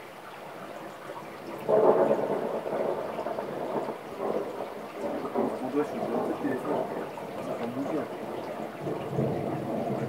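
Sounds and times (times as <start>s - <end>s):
steady rain: 0.0s - 10.0s
thunder clap rumbling: 1.6s - 10.0s.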